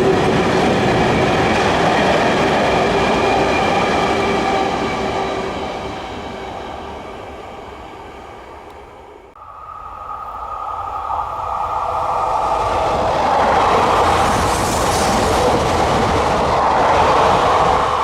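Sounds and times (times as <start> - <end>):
train passing: 0.0 - 18.0
steady whining tones: 2.8 - 18.0.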